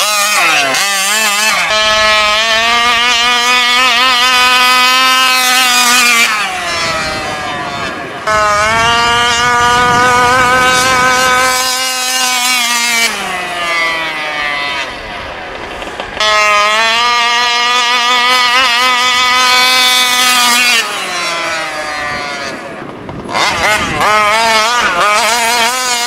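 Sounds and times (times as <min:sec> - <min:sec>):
two-stroke engine at full throttle: 0:00.0 - 0:26.0.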